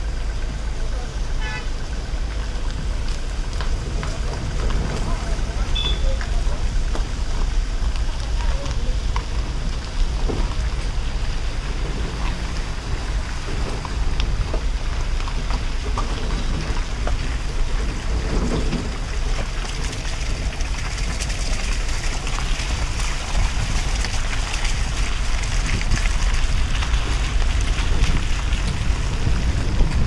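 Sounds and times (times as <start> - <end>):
car road and wind rumble: 0.0 - 30.0.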